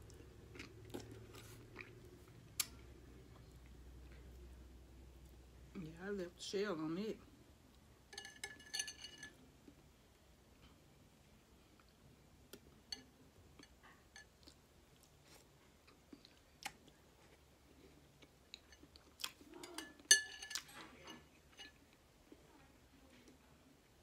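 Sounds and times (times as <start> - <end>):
soft chewing: 0.0 - 5.8, 7.6 - 24.0.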